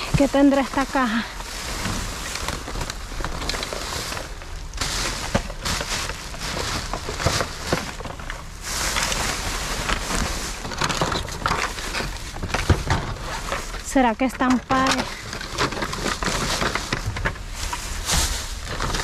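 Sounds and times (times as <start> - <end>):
bags and boxes rustling: 0.0 - 19.0.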